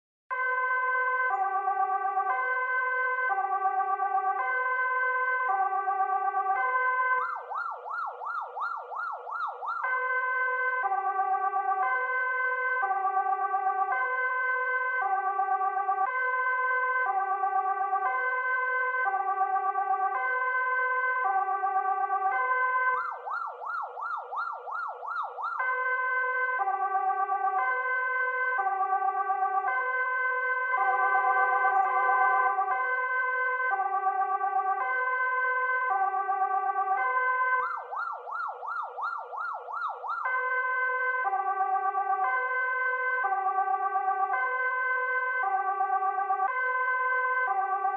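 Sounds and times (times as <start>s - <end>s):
police siren fast yelp: 0.3s - 47.9s
two-tone police siren: 0.3s - 47.9s.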